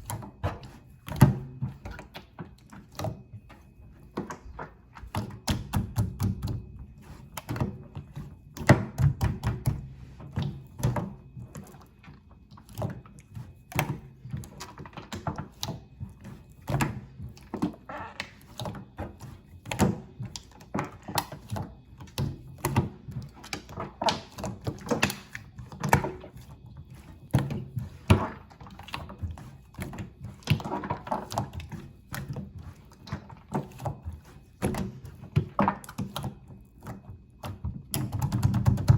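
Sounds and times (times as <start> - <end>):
hands squishing watery slime: 0.0 - 38.9.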